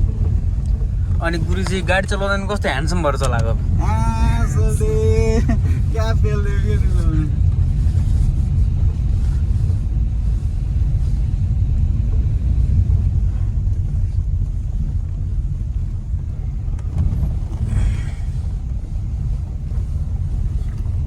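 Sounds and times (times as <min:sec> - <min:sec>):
engine and tyres rumbling: 0:00.0 - 0:21.0.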